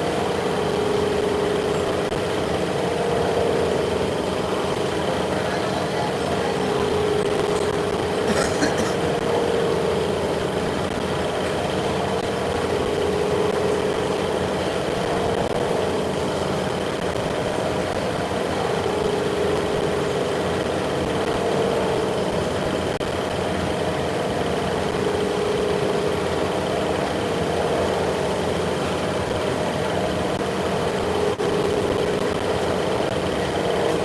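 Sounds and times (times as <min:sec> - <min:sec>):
machinery hum: 0:00.0 - 0:34.0
steady high whine: 0:00.0 - 0:34.0.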